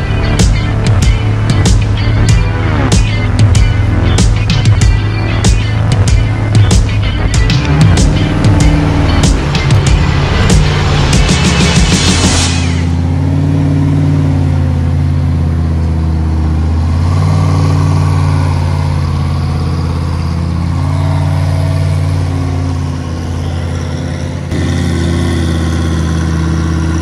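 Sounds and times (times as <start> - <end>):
race car engine idling: 0.0 - 27.0.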